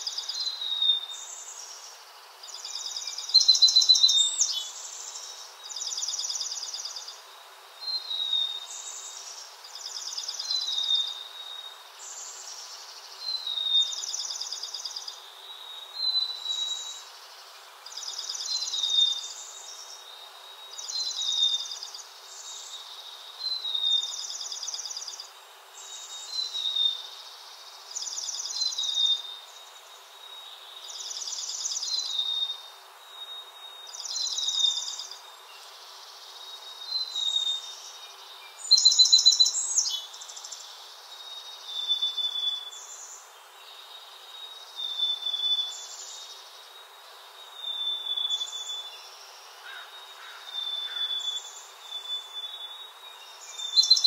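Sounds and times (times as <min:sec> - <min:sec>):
songbird trilling song: 0:00.0 - 0:07.2, 0:07.8 - 0:17.2, 0:17.8 - 0:29.5, 0:30.3 - 0:54.0.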